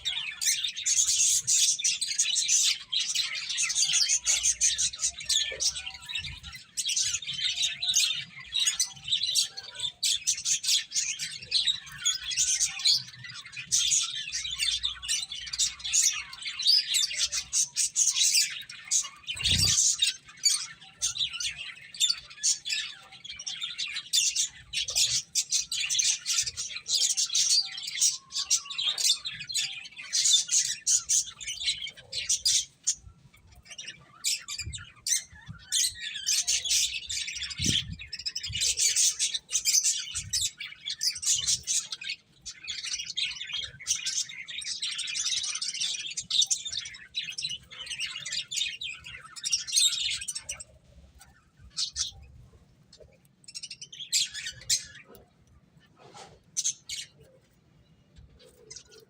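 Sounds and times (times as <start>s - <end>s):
finches chirping: 0.0s - 50.7s.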